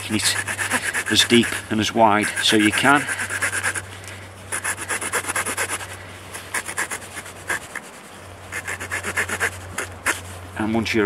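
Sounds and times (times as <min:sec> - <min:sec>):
knife scraping wooden stick: 0:00.0 - 0:03.8, 0:04.5 - 0:10.3.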